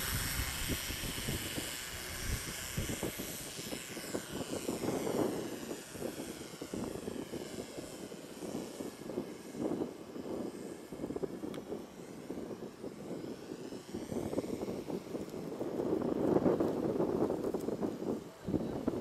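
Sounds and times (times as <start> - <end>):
toy drone motors whining: 0.0 - 19.0.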